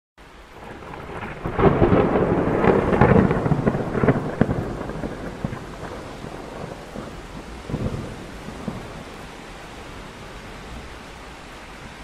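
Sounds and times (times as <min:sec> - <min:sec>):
steady rain: 0:00.2 - 0:12.0
thunder rumbling: 0:00.5 - 0:12.0.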